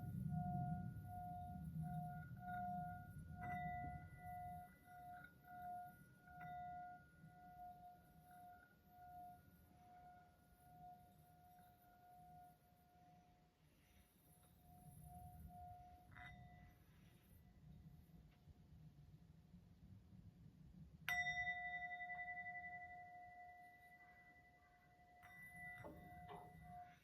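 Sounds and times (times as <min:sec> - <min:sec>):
singing bowl ringing: 0:00.0 - 0:17.4, 0:21.1 - 0:27.0.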